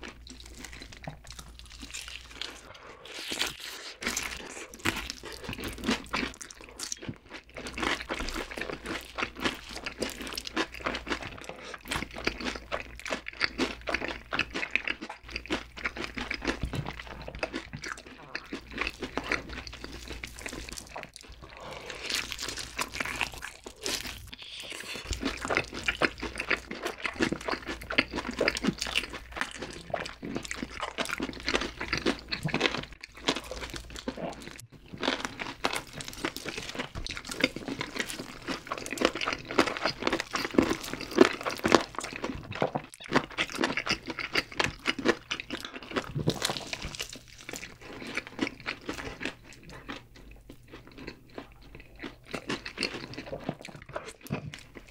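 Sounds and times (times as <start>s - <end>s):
crunching fried chicken: 0.0s - 54.9s.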